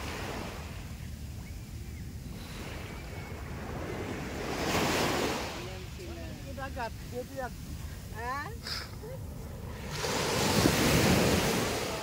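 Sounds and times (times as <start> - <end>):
surf: 0.0 - 12.0
wind rumble on microphone: 0.0 - 12.0.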